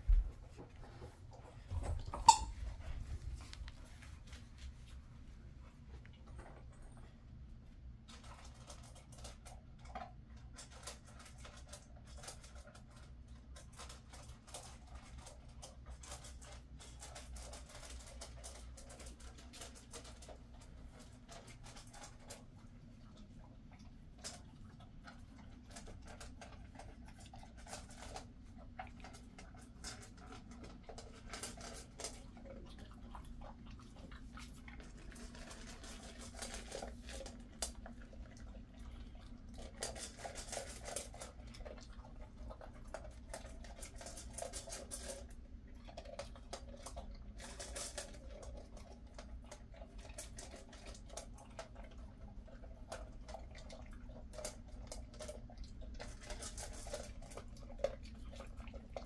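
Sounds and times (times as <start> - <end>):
dog chewing food: 0.0 - 59.0.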